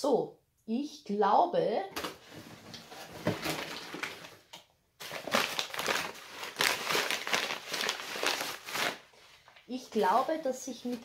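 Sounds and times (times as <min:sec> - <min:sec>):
plastic packaging crinkling: 0:02.0 - 0:11.0.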